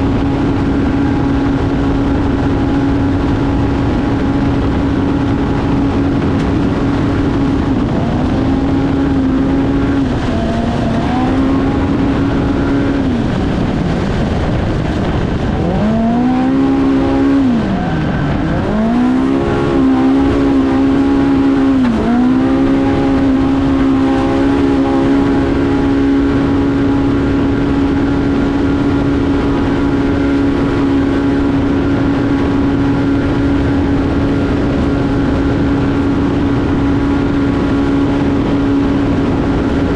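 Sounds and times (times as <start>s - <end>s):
race engine at high revs: 0.0s - 39.9s
wind and terrain noise: 0.0s - 39.9s.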